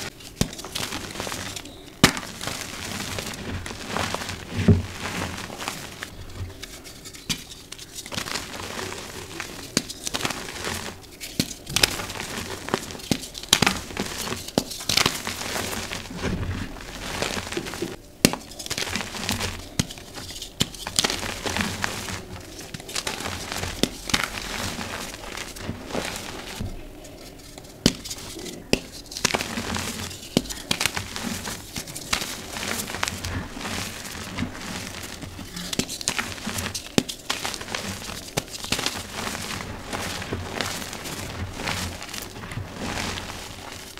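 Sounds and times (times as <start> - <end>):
chalk crumbling and cracking: 0.0 - 43.9
powdery rustling: 0.0 - 43.9.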